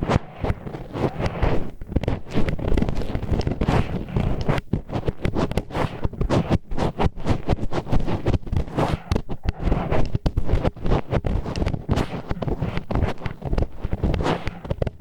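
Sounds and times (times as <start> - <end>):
chopsticks scraping microphone: 0.0 - 15.0.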